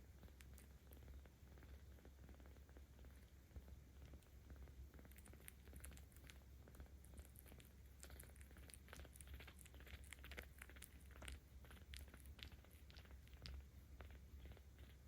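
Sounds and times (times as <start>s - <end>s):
kitten purring: 0.0s - 15.0s
light clicks and crackles: 0.2s - 15.0s.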